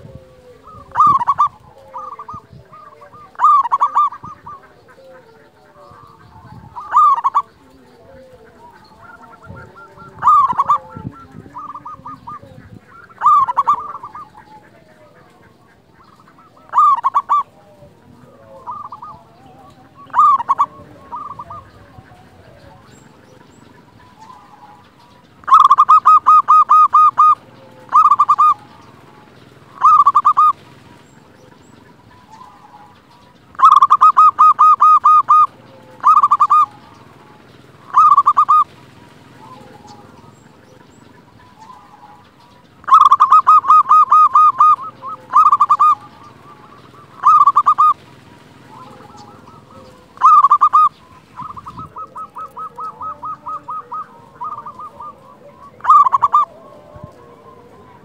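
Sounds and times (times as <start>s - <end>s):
dove cooing: 0.0s - 58.0s
rapid coos: 0.0s - 58.0s.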